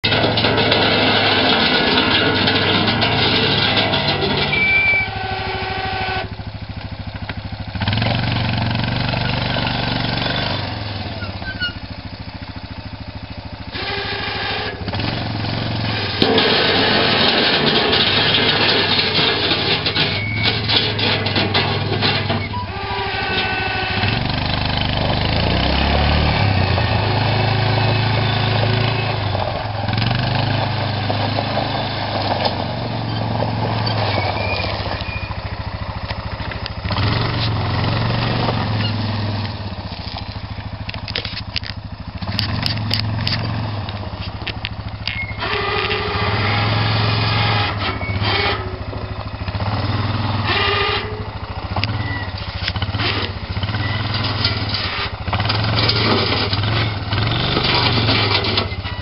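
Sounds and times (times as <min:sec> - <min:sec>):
bucket working through gravel: 0:00.0 - 0:06.3, 0:13.8 - 0:59.0
atv engine under load: 0:00.0 - 0:59.0.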